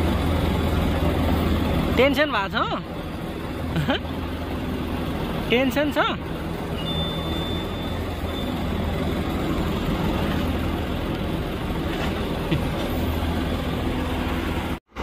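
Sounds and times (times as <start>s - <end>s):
road traffic noise: 0.0s - 15.0s
vehicle engine humming: 0.0s - 15.0s.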